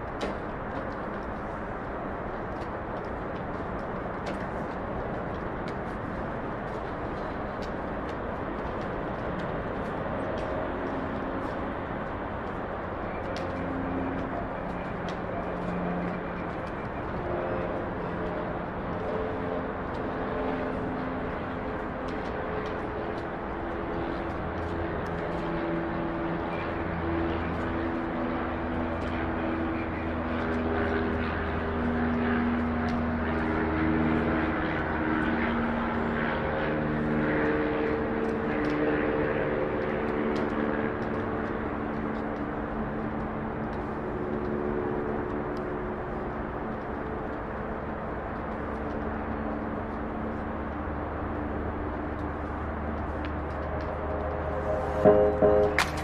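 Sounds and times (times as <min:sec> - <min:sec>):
jet engines running at low power: 0:00.0 - 0:56.0.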